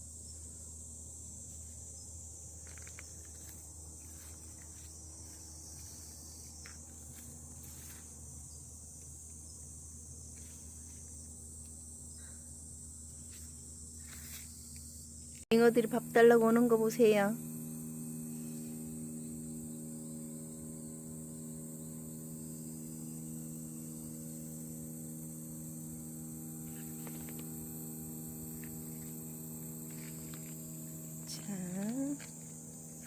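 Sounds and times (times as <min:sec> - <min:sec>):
crickets chirping: 0:00.0 - 0:33.0
low background hum: 0:00.0 - 0:33.0.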